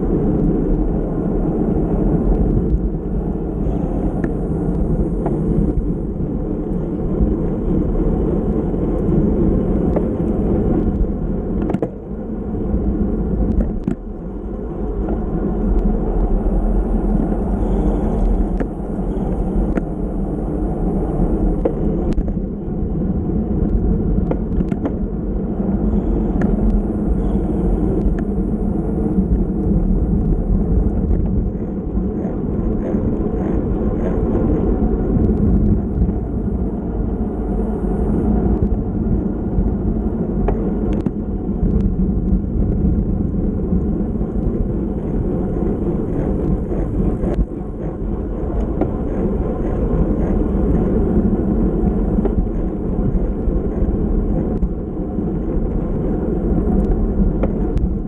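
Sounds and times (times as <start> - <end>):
bicycle road noise: 0.0 - 58.0
wind rush: 0.0 - 58.0.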